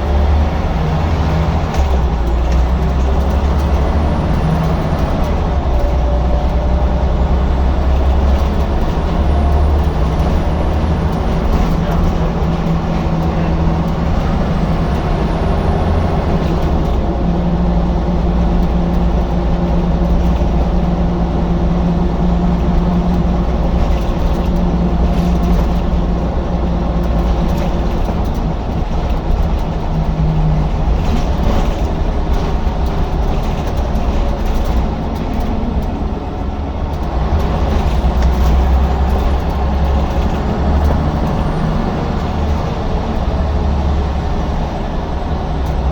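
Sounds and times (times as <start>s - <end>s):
bus diesel engine droning: 0.0s - 45.9s.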